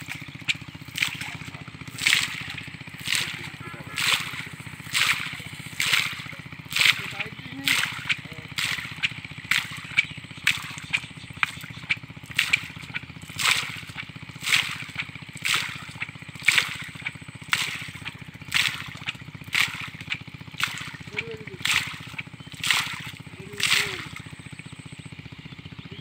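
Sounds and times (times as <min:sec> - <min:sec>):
water and mud gushing from pipe: 0:00.0 - 0:24.5
low steady hum: 0:00.0 - 0:26.0.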